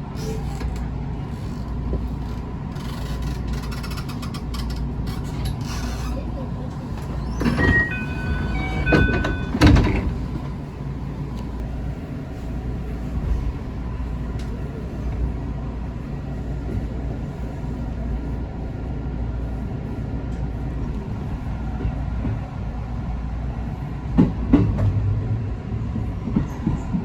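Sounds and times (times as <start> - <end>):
train rumble from on board: 0.0 - 27.0.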